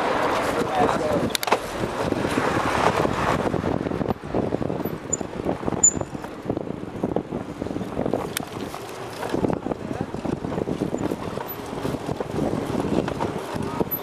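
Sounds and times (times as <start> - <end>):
city traffic noise: 0.0 - 14.0
wind buffeting microphone: 0.0 - 14.0.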